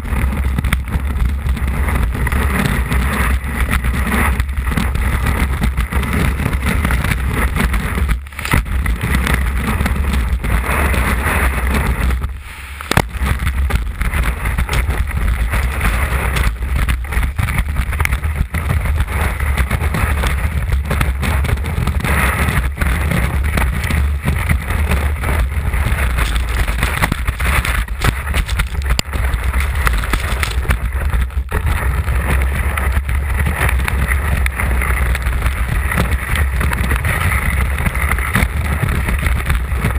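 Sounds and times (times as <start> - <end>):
skis scraping over snow: 0.0 - 39.9
wind rushing over microphone: 0.0 - 39.9.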